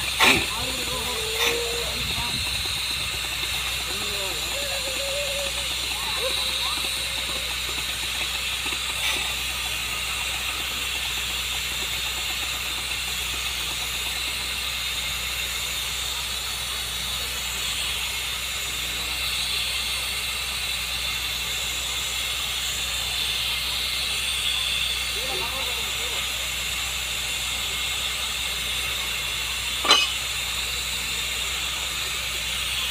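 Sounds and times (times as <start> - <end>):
drilling rig hiss: 0.0 - 32.9
low engine drone: 0.0 - 32.9.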